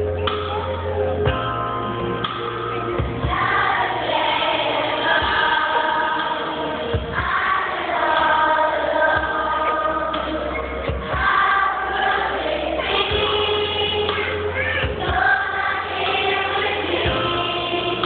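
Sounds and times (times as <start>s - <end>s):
low accompaniment notes: 0.0s - 18.0s
children's choir singing: 3.2s - 18.0s.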